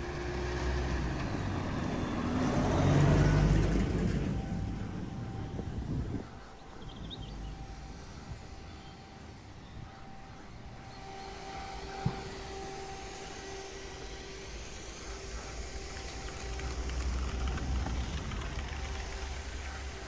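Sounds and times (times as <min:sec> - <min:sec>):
motor whining and rumbling: 0:00.0 - 0:20.0.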